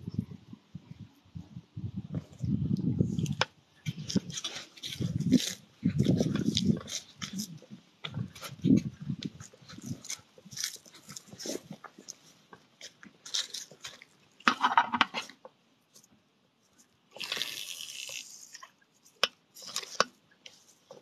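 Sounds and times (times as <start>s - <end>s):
rustling and crunching: 2.1s - 21.0s.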